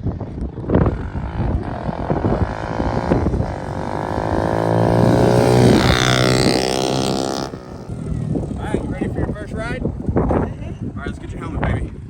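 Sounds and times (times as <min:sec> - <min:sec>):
dirt bike accelerating: 0:00.0 - 0:11.0.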